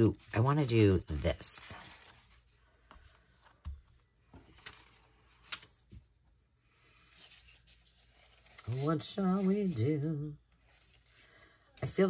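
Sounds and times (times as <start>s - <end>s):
faint paper rustles: 0.0s - 12.0s.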